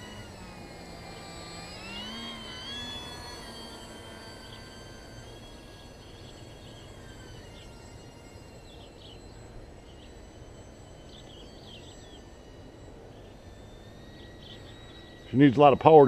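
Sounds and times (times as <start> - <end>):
electric motor high whine: 0.0 - 16.0.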